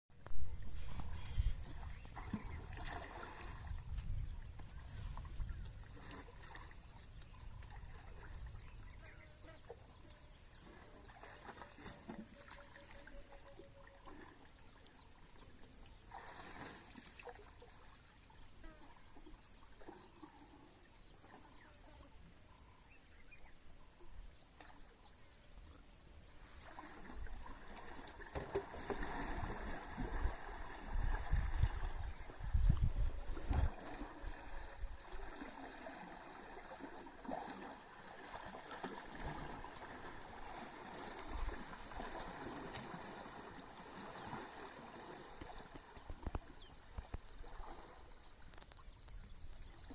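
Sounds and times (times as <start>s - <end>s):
water lapping against boat hull: 0.2s - 21.6s, 24.5s - 49.9s.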